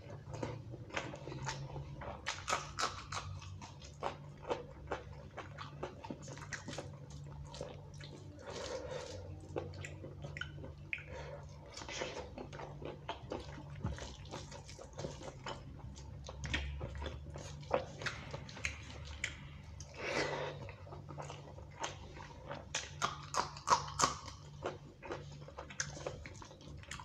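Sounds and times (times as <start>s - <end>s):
wet chewing and lip-smacking: 0.0s - 27.0s.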